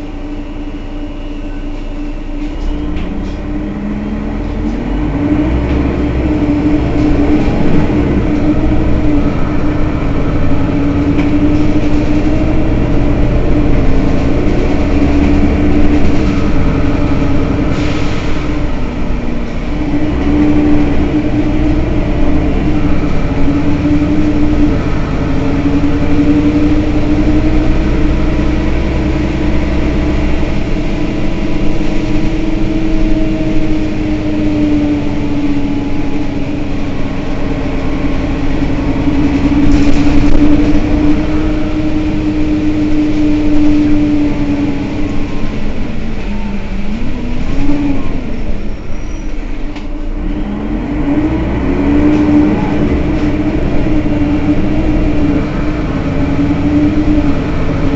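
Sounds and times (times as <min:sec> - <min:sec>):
bus engine idling: 0:00.0 - 0:57.9.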